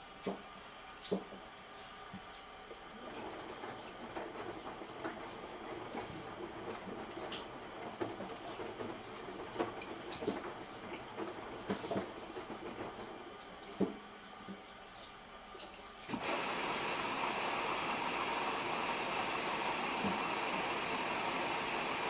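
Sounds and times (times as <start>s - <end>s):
washing machine water sloshing: 0.0s - 22.0s.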